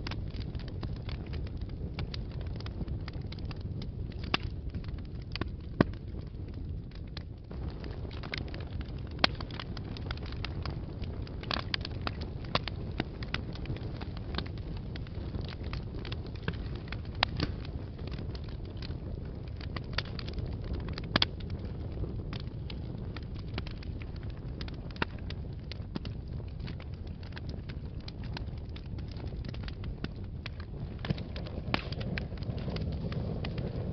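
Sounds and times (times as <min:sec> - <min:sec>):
fireplace fire crackling: 0:00.0 - 0:33.9.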